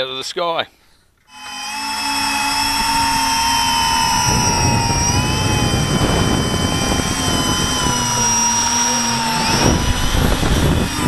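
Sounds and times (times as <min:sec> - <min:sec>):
drone motors whining: 0:01.3 - 0:11.0
wind and propeller wash rushing: 0:01.5 - 0:11.0.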